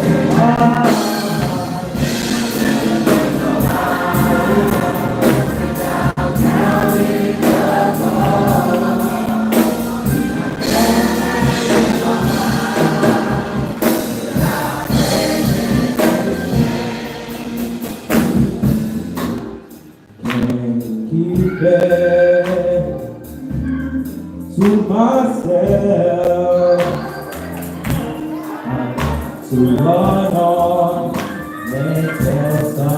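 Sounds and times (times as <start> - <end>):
choir and congregation singing: 0.0 - 19.7, 24.7 - 32.9
live church band: 0.0 - 32.9.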